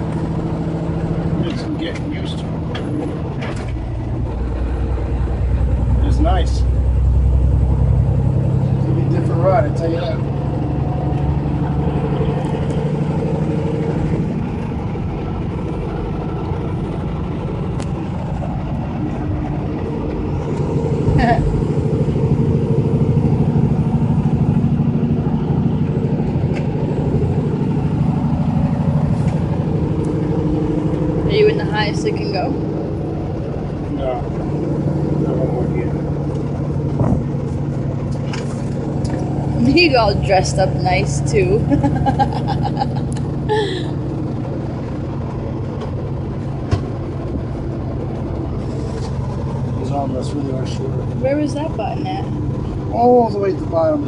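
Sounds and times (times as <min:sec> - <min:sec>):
road noise: 0:00.0 - 0:54.0
truck diesel engine inside cab: 0:00.0 - 0:54.0.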